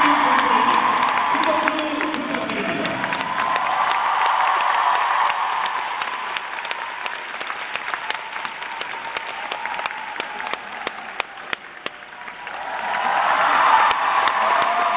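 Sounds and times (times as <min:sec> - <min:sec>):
audience applauding: 0:00.0 - 0:14.9
sharp claps close to microphone: 0:00.7 - 0:13.1, 0:13.7 - 0:14.9.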